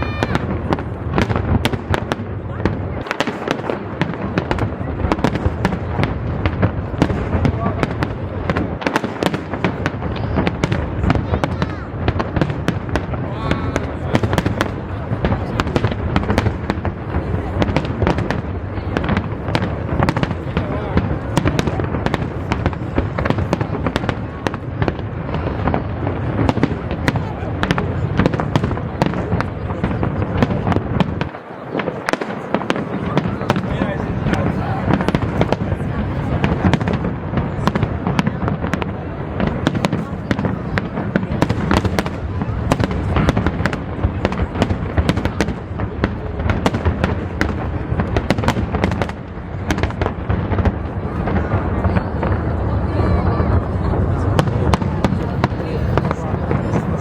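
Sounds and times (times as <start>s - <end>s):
fireworks cracking: 0.0s - 57.0s
rumble of distant detonations: 0.0s - 57.0s.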